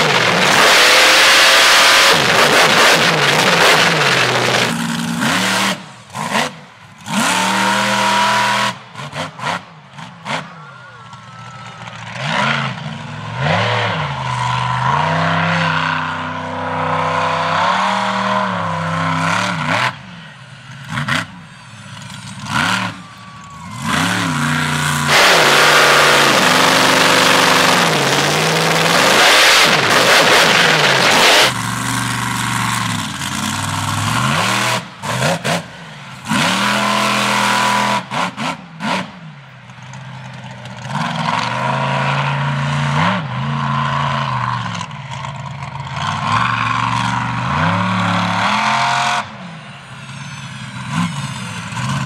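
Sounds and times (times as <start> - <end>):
monster truck engine revving: 0.0 - 52.0.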